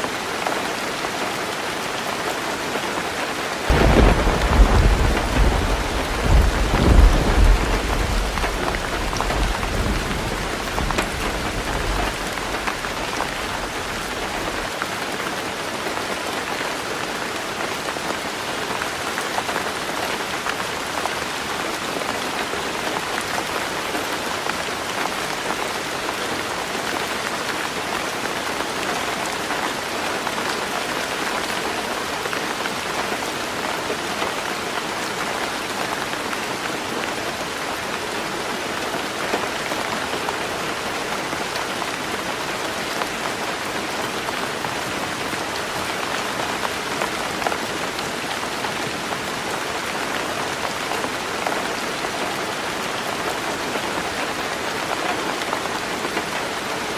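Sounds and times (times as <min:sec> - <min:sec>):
heavy rain on a roof: 0:00.0 - 0:56.9.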